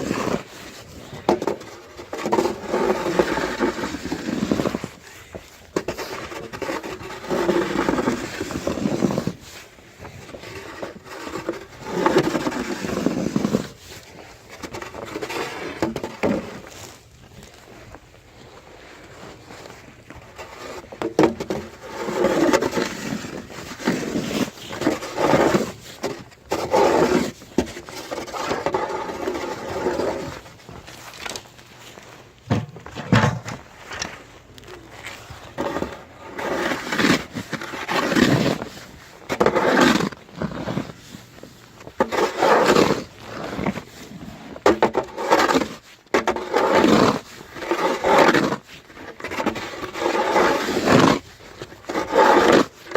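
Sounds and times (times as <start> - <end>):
snow shovel scraping snow: 0.0 - 32.2, 33.0 - 52.9.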